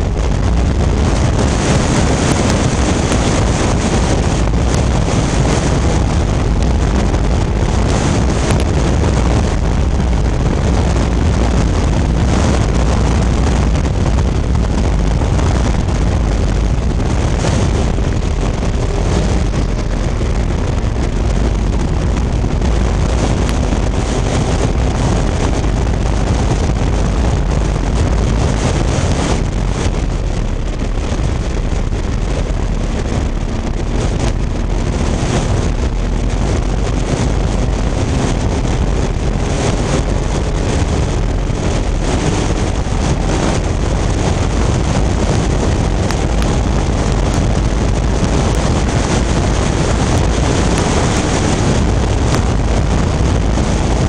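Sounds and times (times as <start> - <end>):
race car engine running: 0.0 - 54.0
wind on microphone: 0.0 - 54.0.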